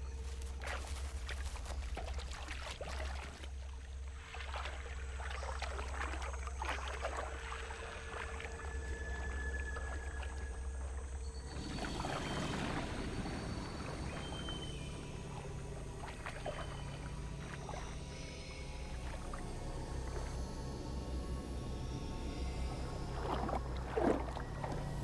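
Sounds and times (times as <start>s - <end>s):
low hum: 0.0s - 25.0s
water splashing and lapping: 0.0s - 25.0s.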